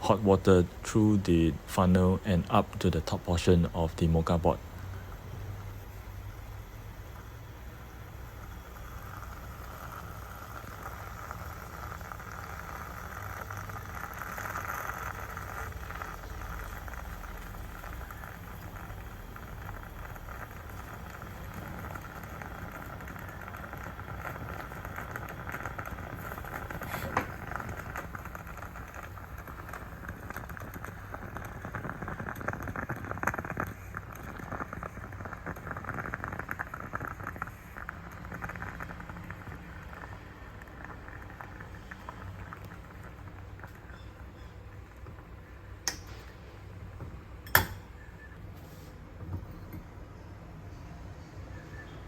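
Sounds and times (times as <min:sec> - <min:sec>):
moka pot hissing and bubbling: 0:00.0 - 0:52.0.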